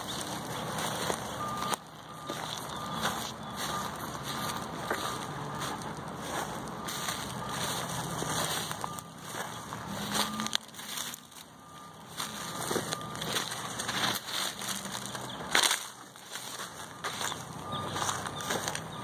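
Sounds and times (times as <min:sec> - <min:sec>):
footsteps crunching through dry brush: 0:00.0 - 0:19.0.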